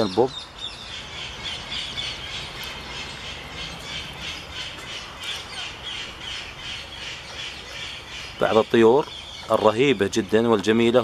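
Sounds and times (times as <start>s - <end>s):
birds squawking: 0.0s - 11.0s.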